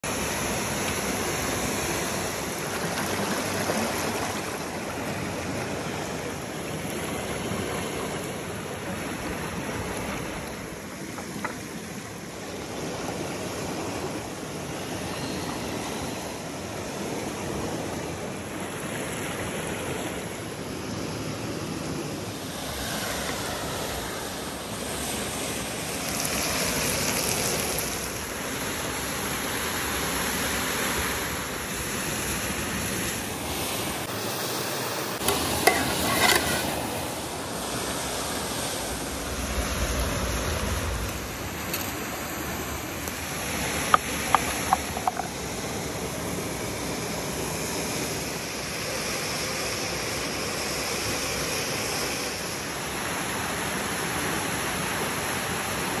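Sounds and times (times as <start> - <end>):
stream and small waterfall: 0.0 - 56.0.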